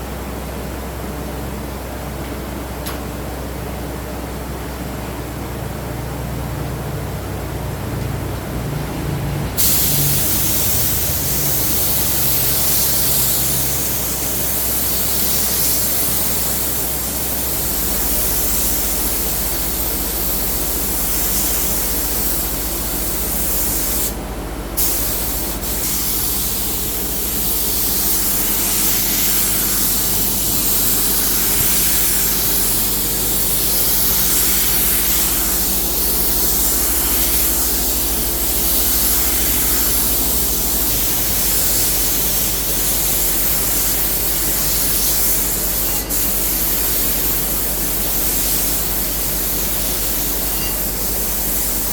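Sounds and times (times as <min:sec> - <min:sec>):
compressed air spray hissing: 0:09.6 - 0:24.2, 0:24.8 - 0:51.9.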